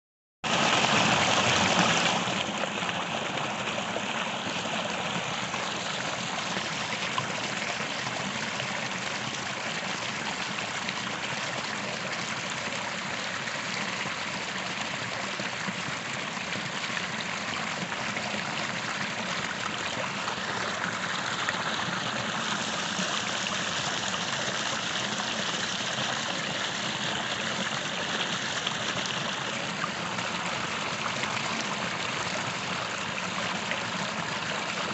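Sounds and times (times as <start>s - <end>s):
creek flowing: 0.4s - 34.9s.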